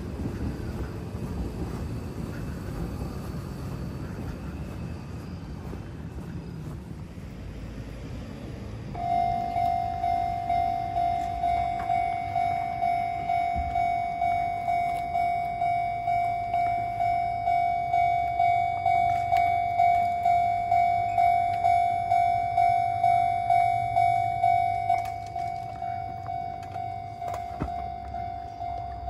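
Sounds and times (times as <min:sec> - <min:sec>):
level-crossing warning bell ringing: 0:00.0 - 0:29.0.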